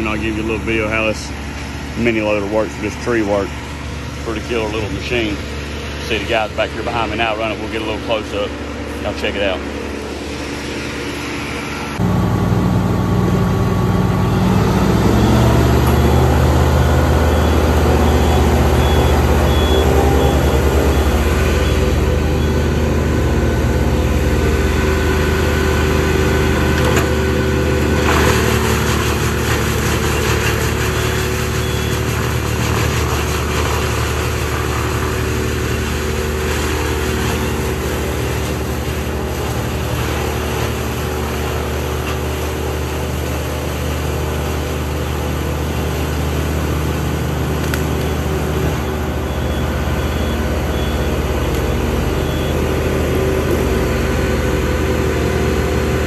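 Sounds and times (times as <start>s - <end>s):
brush chipper running: 0.0s - 56.0s
diesel loader engine: 0.0s - 56.0s.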